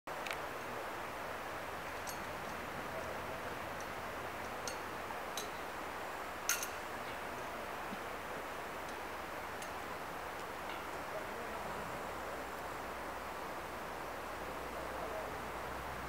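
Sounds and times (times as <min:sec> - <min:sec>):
outdoor background hiss: 0:00.1 - 0:16.0.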